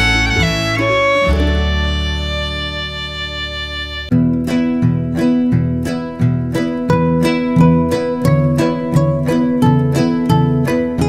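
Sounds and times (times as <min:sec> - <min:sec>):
plucked string music: 0:00.0 - 0:11.0.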